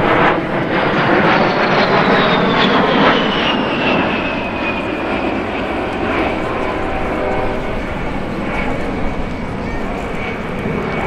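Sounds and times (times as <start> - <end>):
jet aircraft passing: 0.0 - 11.0.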